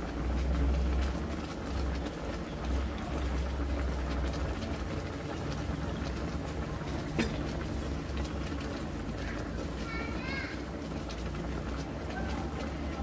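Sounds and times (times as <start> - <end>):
sauce bubbling in wok: 0.0 - 13.0.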